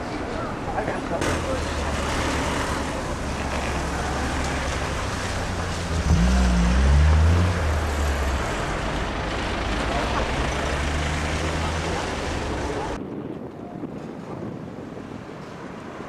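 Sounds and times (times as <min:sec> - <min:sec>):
heavy vehicle engine: 0:00.0 - 0:13.0
street traffic hum: 0:00.0 - 0:16.0.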